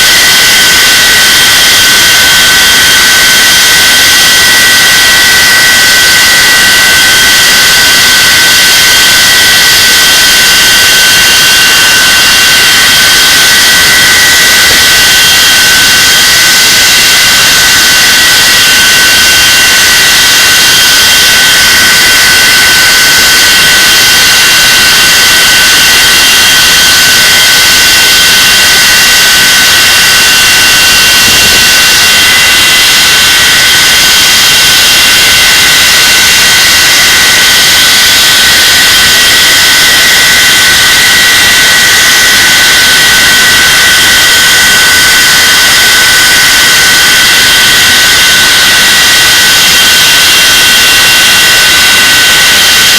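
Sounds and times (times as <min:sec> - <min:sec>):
jet engines roaring with whine: 0:00.0 - 0:52.9.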